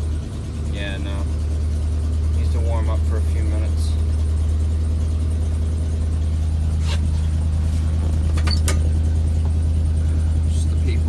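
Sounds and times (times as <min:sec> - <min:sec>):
engine running at fast idle: 0:00.0 - 0:11.0.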